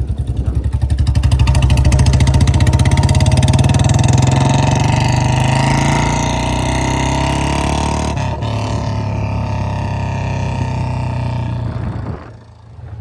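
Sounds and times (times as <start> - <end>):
motorcycle exhaust thumps: 0.0 - 13.0.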